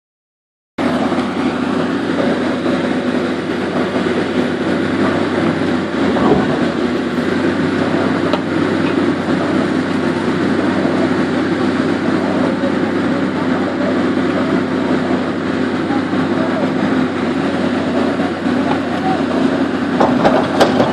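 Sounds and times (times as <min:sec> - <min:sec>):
construction machinery engine hum: 0:00.8 - 0:20.9.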